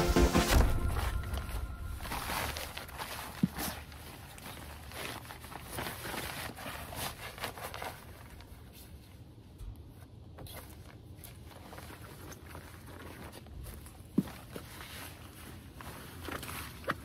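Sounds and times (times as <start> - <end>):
crunching and rustling: 0.5 - 17.0.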